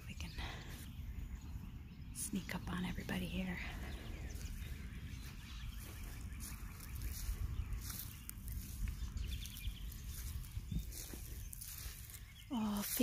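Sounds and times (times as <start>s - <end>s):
footsteps on dry grass: 0.0s - 13.0s
wind rumble on microphone: 0.0s - 13.0s.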